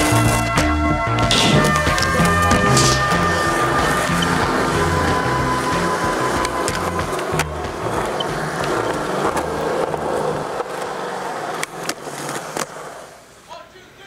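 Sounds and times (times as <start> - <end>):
skateboard wheels rolling on concrete: 0.0 - 14.0
skateboard clacks: 1.2 - 3.1, 3.7 - 13.2.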